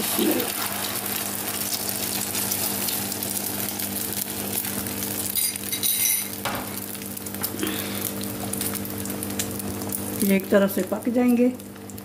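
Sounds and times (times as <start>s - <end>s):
eggs sizzling in hot oil: 0.0s - 12.0s.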